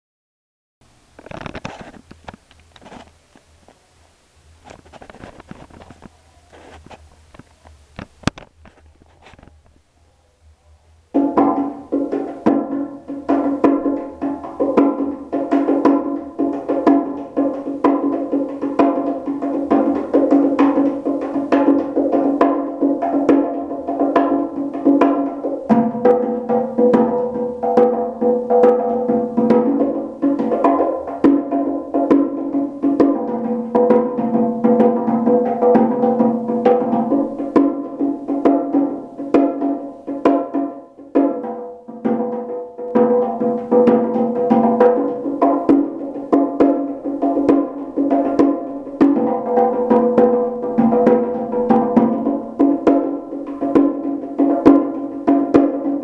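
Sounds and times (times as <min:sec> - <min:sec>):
bongos played by hand: 0:11.1 - 0:56.0.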